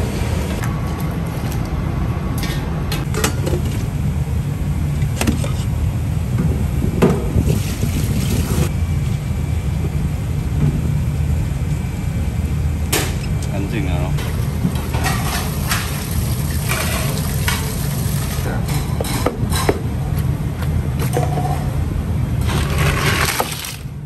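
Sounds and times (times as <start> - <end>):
kitchen equipment rumble: 2.4 - 11.0, 12.9 - 24.0.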